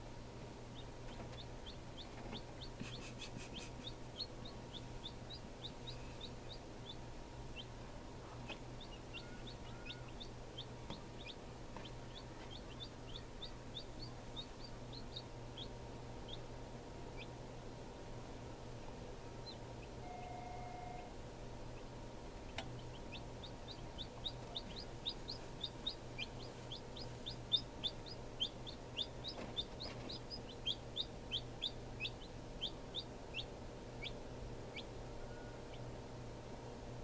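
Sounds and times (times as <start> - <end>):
low steady hum: 0.0 - 37.0
chicks peeping: 0.4 - 36.2.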